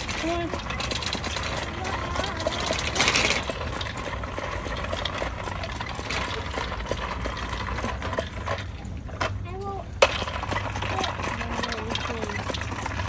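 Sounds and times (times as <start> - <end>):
push toy rolling on concrete: 0.0 - 13.0.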